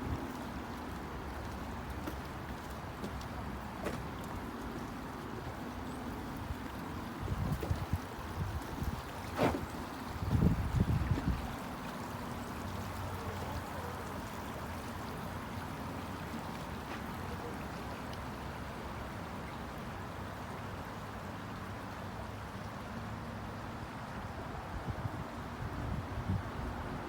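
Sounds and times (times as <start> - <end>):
stream water rushing: 0.0 - 27.0.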